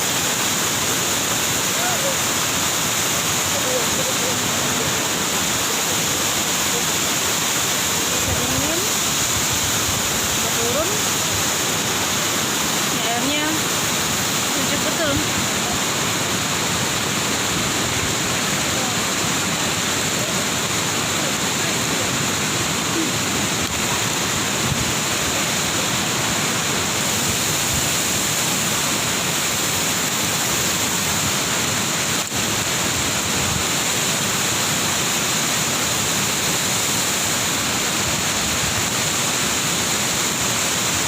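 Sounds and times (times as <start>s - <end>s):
waterfall pouring and splashing: 0.0s - 41.0s.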